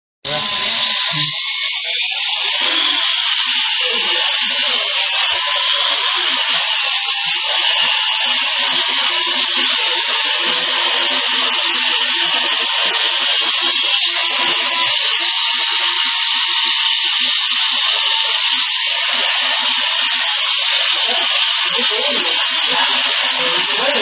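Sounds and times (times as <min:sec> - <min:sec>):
remote-control helicopter whine: 0:00.3 - 0:24.0.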